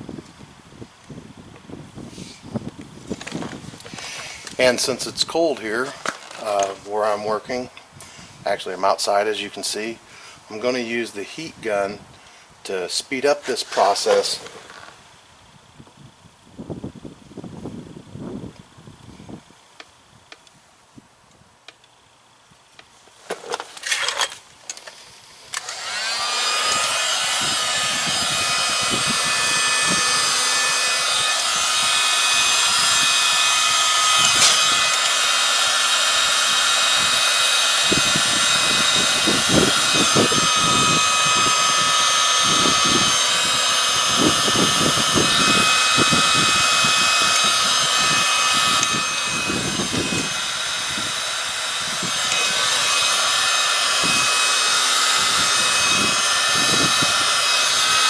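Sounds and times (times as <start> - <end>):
heat gun fan whine: 0.0 - 15.1, 22.5 - 58.0.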